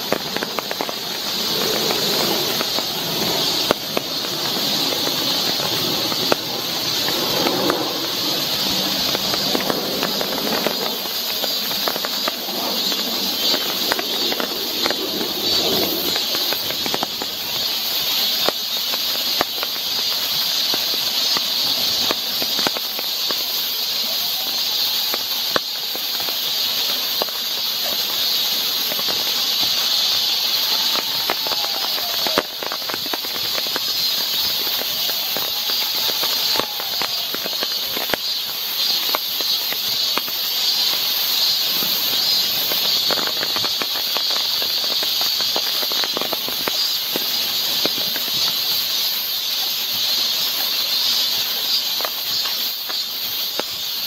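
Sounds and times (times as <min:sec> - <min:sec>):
cicadas droning: 0:00.0 - 0:54.0
rain on foliage and wood: 0:00.0 - 0:54.0.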